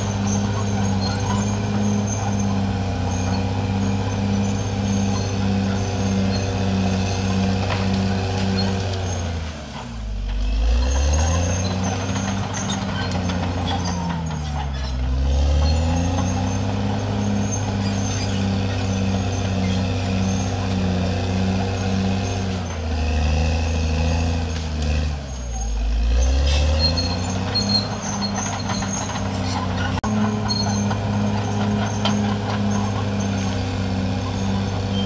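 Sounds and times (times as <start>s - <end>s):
dozer diesel engine running hard: 0.0s - 35.0s.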